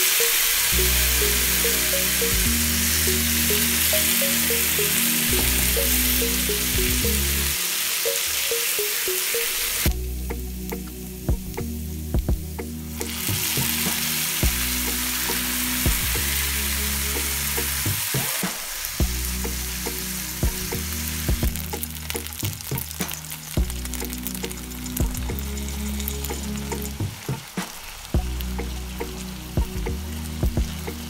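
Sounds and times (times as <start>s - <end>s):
rice and broth sizzling in a pan: 0.0s - 9.9s, 13.0s - 31.0s
soft background music: 0.0s - 18.2s, 19.0s - 27.5s, 28.2s - 31.0s.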